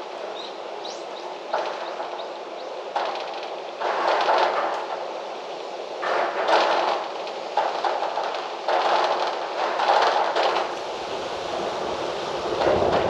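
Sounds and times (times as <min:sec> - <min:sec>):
gusting wind: 0:00.0 - 0:13.0.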